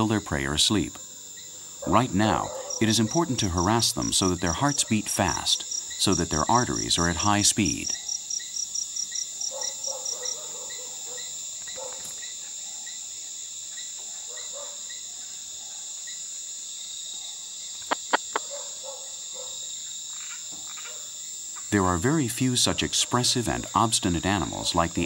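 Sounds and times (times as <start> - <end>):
crickets and insects chirring: 0.0 - 25.0
fast pulsed insect chirp: 0.0 - 25.0.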